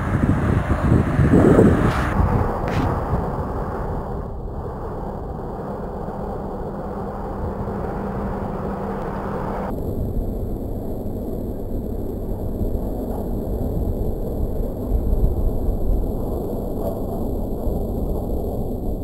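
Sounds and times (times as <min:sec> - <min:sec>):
highway traffic: 0:00.0 - 0:18.3
wind buffeting microphone: 0:00.0 - 0:19.0.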